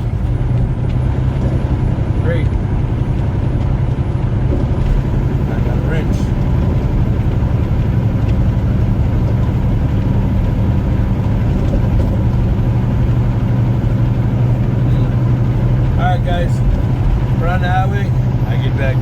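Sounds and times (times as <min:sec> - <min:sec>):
road noise: 0:00.0 - 0:19.0
truck engine drone: 0:00.0 - 0:19.0.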